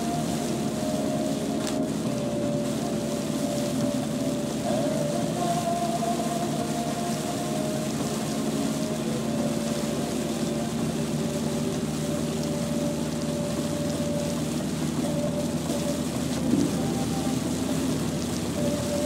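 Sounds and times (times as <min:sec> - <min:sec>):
car driving in rain: 0:00.0 - 0:19.0
faint radio music: 0:00.0 - 0:19.0.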